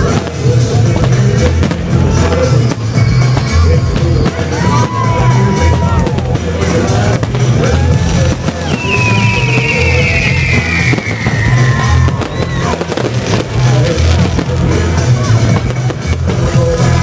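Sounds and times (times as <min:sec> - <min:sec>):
fireworks bursting and crackling: 0:00.0 - 0:17.0
loud music with pulsing bass: 0:00.0 - 0:17.0.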